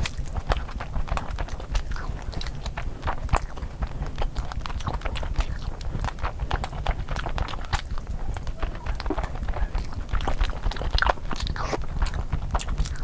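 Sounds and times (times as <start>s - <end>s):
chewing and lip smacks: 0.0s - 13.0s.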